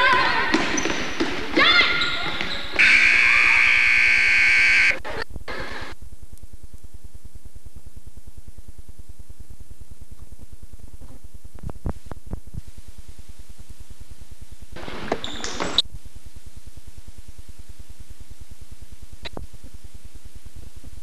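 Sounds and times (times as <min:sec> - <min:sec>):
electrical hum and hiss: 0:02.8 - 0:21.0.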